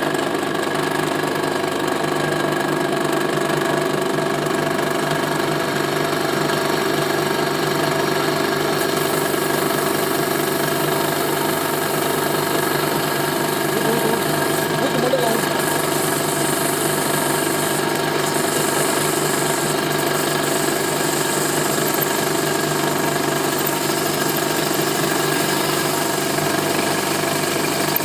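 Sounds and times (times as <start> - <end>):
drill press humming: 2.8 - 28.0.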